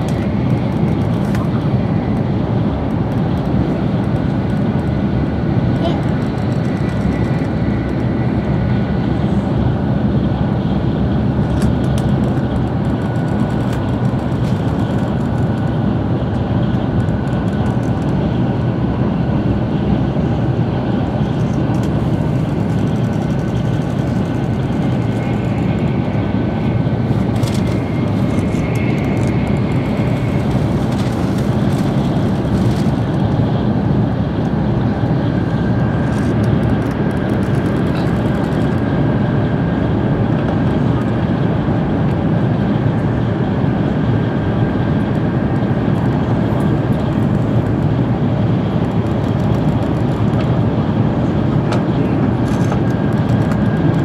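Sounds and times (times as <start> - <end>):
train rumble of wheels and air: 0.0 - 54.0.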